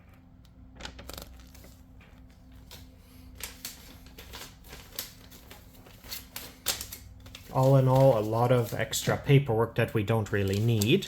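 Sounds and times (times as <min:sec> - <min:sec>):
paper rustling and crinkling: 0:00.9 - 0:11.0.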